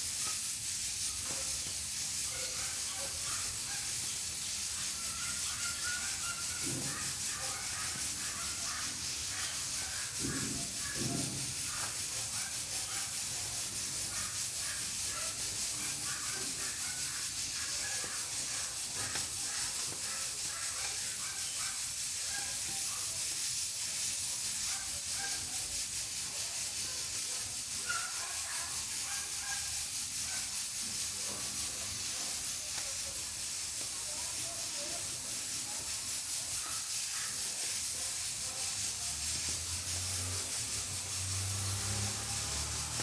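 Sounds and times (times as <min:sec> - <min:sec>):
pressure cooker hissing: 0:00.0 - 0:43.0.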